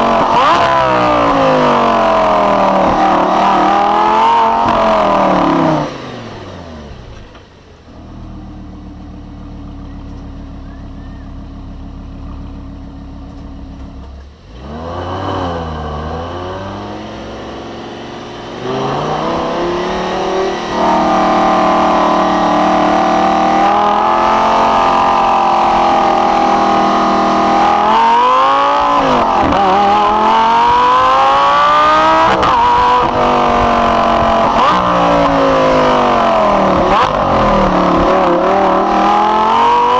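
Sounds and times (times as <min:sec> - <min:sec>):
sports car engine revving: 0:00.0 - 0:07.2, 0:07.9 - 0:39.9.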